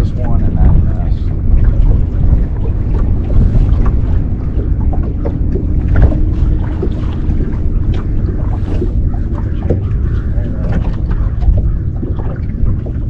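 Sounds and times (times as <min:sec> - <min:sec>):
boat knocking: 0:00.0 - 0:13.0
water noise: 0:00.0 - 0:13.0
wind rumbling on microphone: 0:00.0 - 0:13.0.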